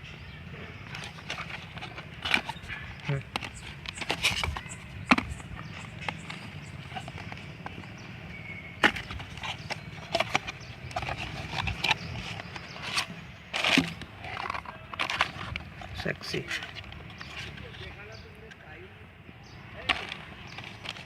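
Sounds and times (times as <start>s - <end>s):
packaging rustle: 0.8s - 7.5s, 8.8s - 17.8s, 19.8s - 21.0s.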